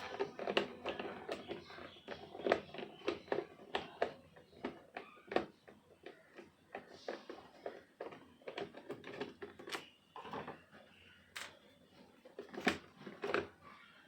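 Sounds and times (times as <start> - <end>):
clicks and knocks on plastic: 0.0 - 14.0.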